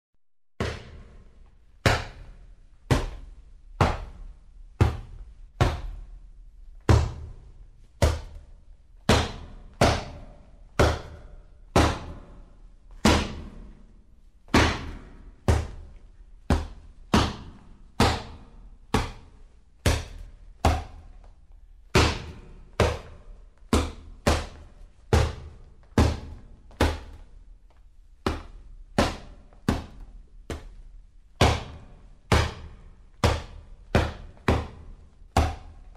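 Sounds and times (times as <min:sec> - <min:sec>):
punches on a punching bag: 0:00.6 - 0:01.2, 0:01.8 - 0:06.1, 0:06.9 - 0:13.9, 0:14.5 - 0:21.1, 0:21.9 - 0:27.2, 0:28.2 - 0:30.7, 0:31.4 - 0:35.8.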